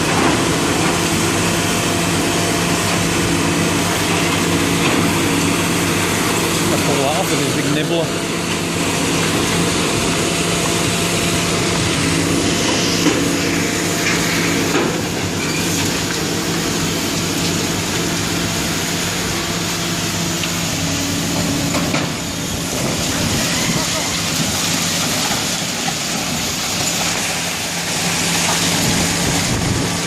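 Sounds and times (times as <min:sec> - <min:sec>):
heavy machinery engine running: 0:00.0 - 0:30.0.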